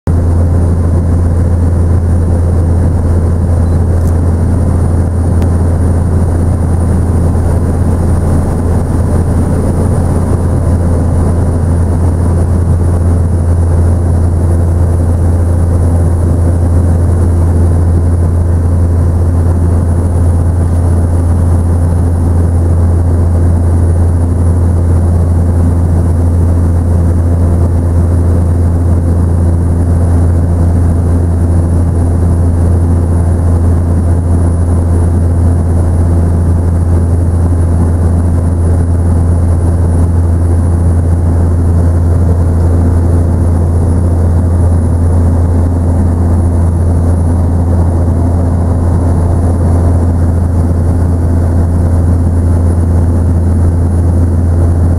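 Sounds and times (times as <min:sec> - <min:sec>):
helicopter rotor and engine drone: 0:00.1 - 0:54.9
thin high whine: 0:00.2 - 0:54.6.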